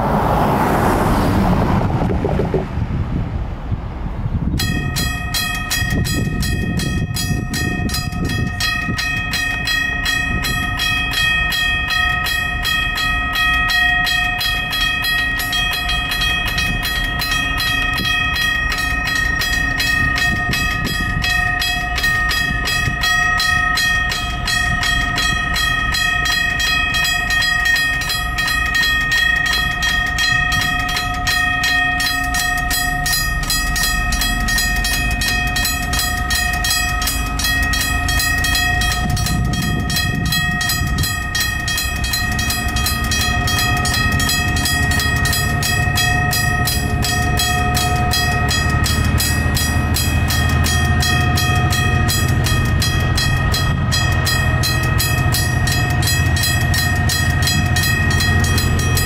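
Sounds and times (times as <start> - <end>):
crossing bells ringing: 4.5 - 59.0.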